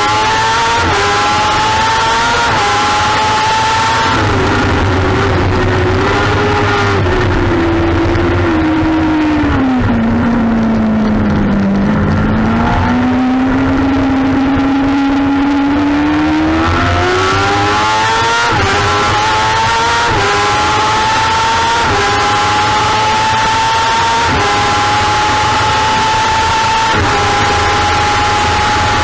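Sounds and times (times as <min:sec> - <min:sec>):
motorcycle engine racing: 0:00.0 - 0:29.0.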